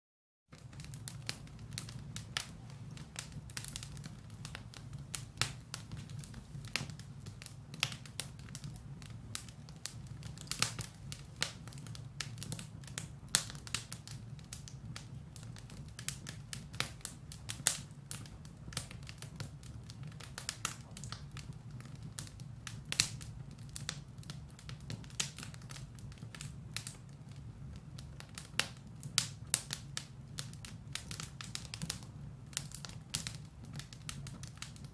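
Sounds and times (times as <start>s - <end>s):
firewood crackling and popping: 0.5s - 34.9s
low rumble of flames: 0.5s - 34.9s.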